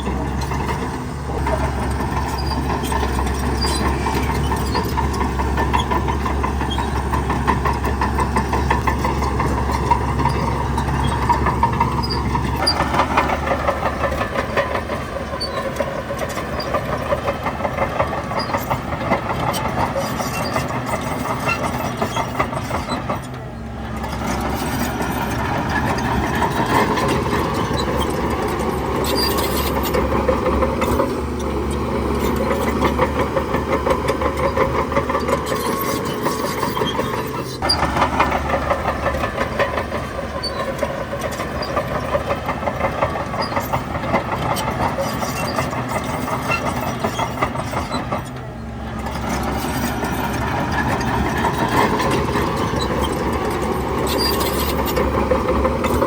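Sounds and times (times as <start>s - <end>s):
bulldozer diesel engine rattling: 0.0s - 56.0s.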